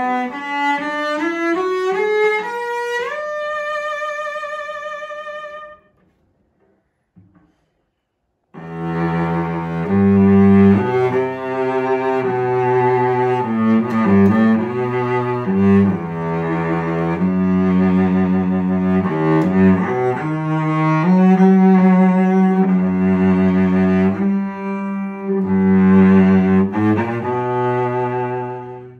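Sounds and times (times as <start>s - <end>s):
solo cello bowed: 0.0s - 6.0s, 8.6s - 28.9s.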